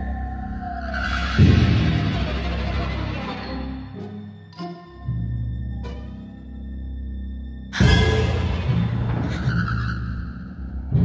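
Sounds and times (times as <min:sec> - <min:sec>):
suspenseful film score music: 0:00.0 - 0:11.0.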